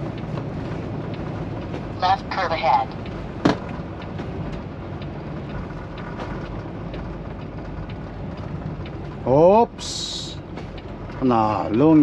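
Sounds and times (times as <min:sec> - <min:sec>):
truck engine and tyres droning: 0:00.0 - 0:12.0.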